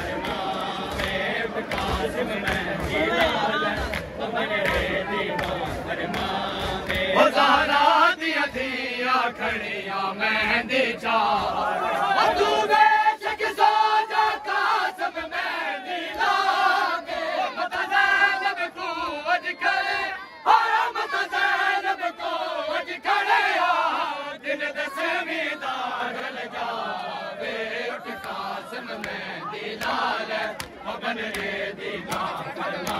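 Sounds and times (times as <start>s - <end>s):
crowd of men chanting: 0.0s - 32.9s.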